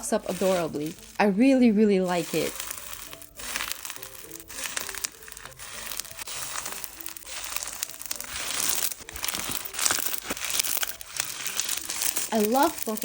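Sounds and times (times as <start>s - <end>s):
slime squished by hand crackling: 2.1s - 13.0s.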